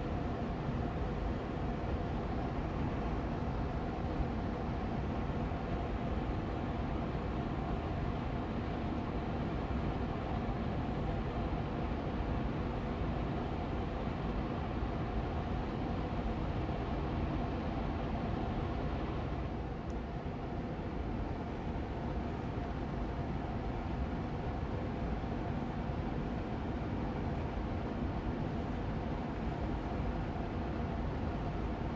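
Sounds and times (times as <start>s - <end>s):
air purifier fan running: 0.0s - 31.9s.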